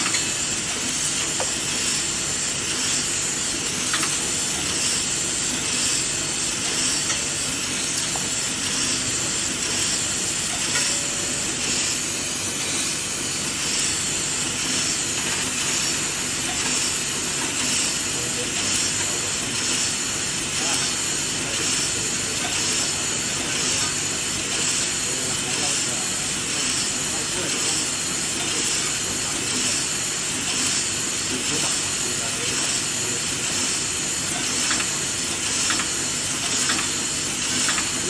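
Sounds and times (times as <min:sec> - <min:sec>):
machine hiss: 0:00.0 - 0:38.0
packaging machine whirring: 0:00.0 - 0:38.0.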